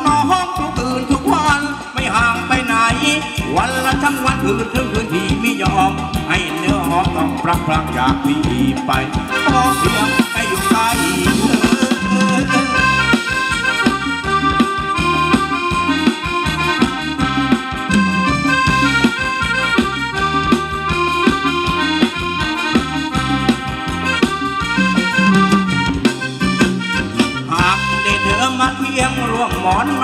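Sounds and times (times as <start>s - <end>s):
instrumental dance music: 2.4s - 28.9s.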